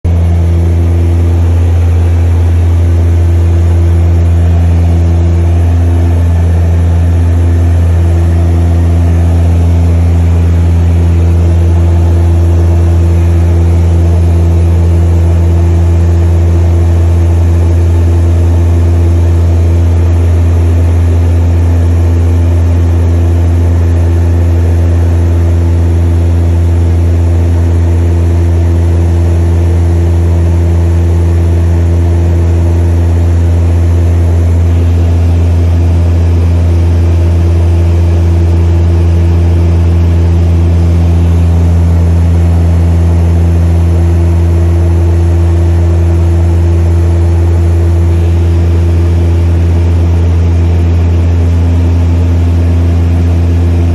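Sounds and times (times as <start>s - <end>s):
propeller engines droning: 0.1s - 53.9s.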